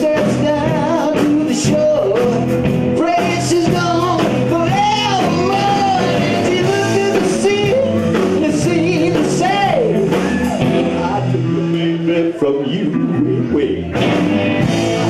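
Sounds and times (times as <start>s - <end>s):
rock and roll band playing: 0.0s - 15.0s.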